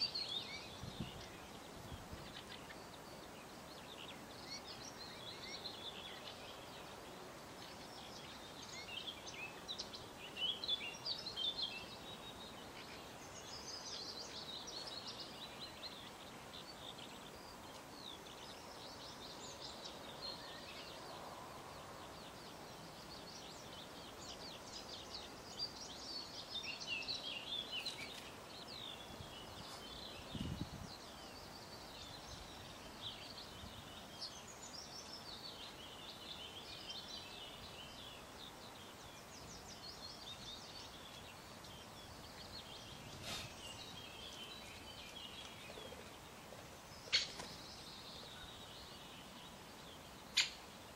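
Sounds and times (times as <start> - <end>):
songbirds singing and chirping: 0.0 - 50.9.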